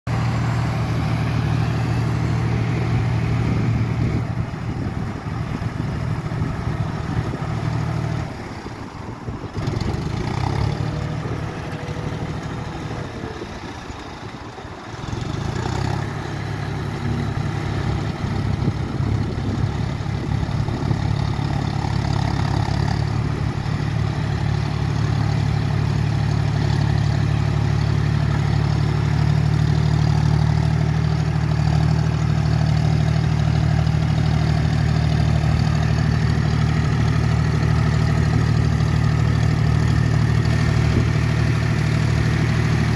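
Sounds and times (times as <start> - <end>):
tractor diesel engine running: 0.1 - 42.9.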